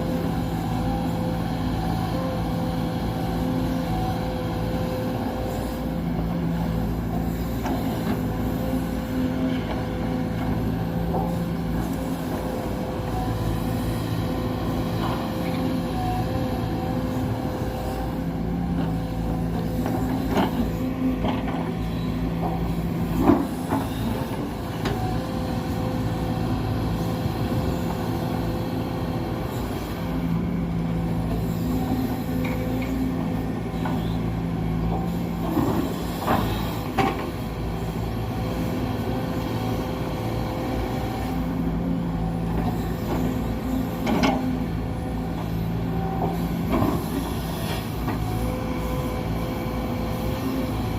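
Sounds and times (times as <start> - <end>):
excavator engine and hydraulics: 0.0 - 50.9.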